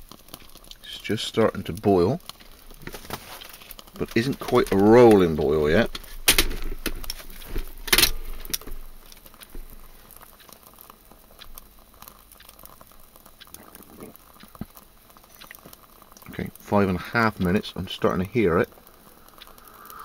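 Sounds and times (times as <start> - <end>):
water ticking and crackling: 0.0 - 20.0.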